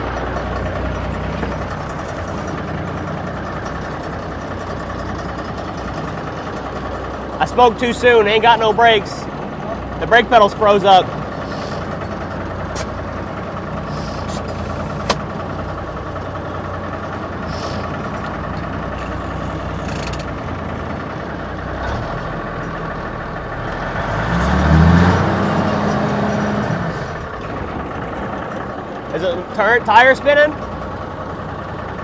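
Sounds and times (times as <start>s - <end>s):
diesel engine idling and revving: 0.0s - 32.0s.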